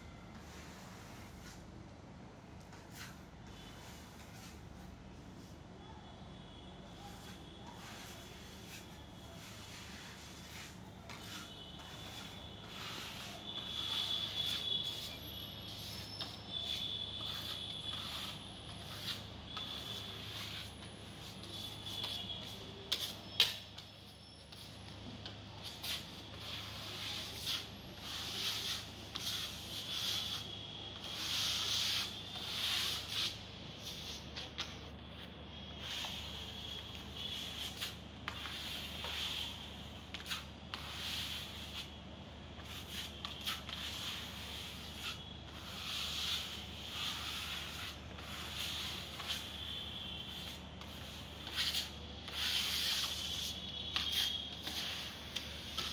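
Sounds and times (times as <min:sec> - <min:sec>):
trowels scraping on wall: 0:07.2 - 0:34.9, 0:35.8 - 0:42.0, 0:42.6 - 0:55.9.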